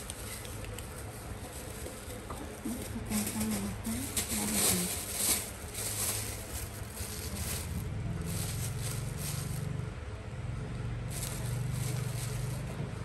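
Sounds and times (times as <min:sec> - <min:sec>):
plastic bag crinkling: 0:00.0 - 0:09.8, 0:11.1 - 0:13.0.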